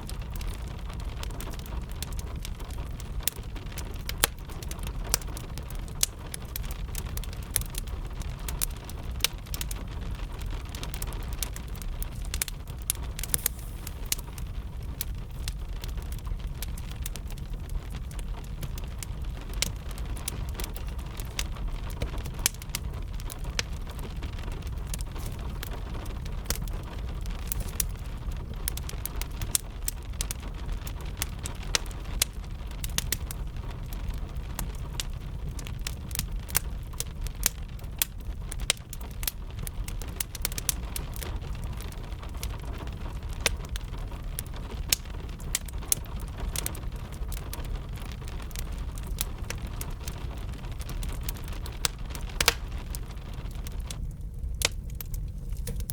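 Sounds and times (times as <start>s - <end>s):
rain: 0.0s - 55.9s
wood fire crackling and popping: 0.0s - 55.9s.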